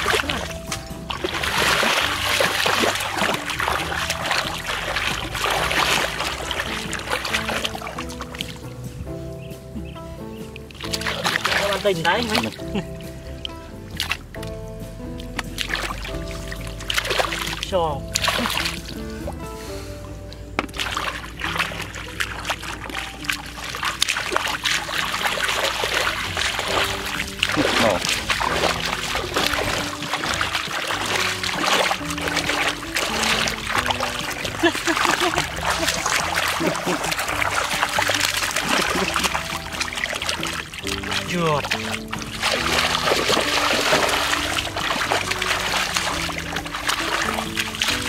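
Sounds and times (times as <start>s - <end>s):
mud and water sloshing: 0.0s - 48.0s.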